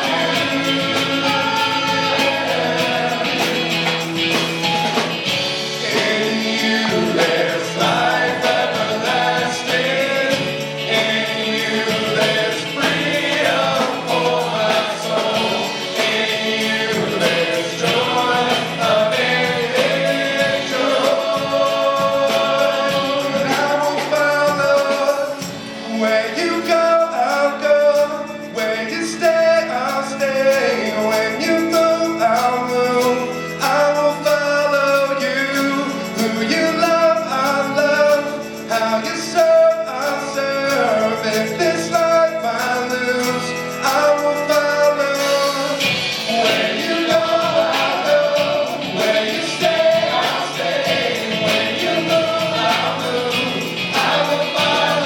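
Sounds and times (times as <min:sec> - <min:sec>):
band accompaniment: 0:00.0 - 0:55.0
group singing worship song: 0:00.0 - 0:55.0.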